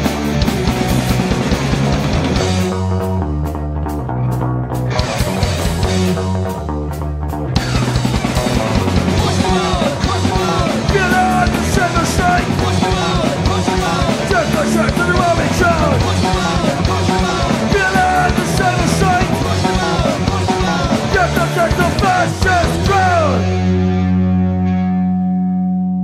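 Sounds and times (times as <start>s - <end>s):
lead guitar bending notes: 0.0s - 26.0s
punk band playing: 0.0s - 26.0s.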